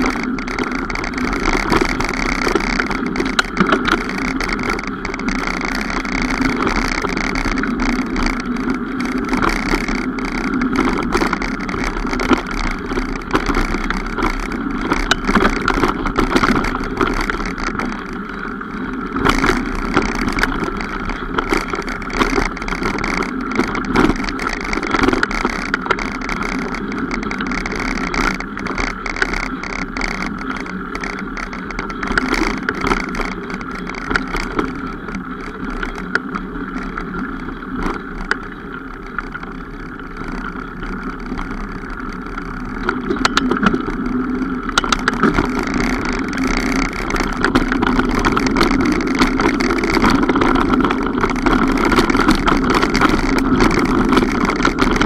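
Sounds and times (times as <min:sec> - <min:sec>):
mountain bike rolling: 0:00.0 - 0:55.0.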